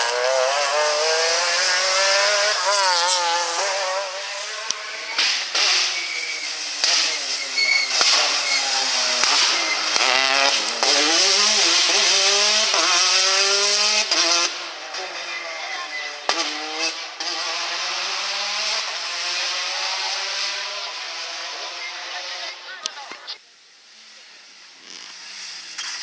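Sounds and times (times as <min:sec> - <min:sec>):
rally car engine revving: 0:00.0 - 0:23.0, 0:24.4 - 0:26.0.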